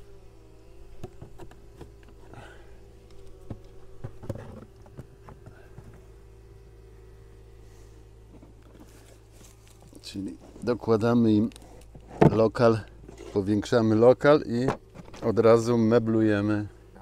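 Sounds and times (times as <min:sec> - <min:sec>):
honeybees humming: 0:00.0 - 0:17.0.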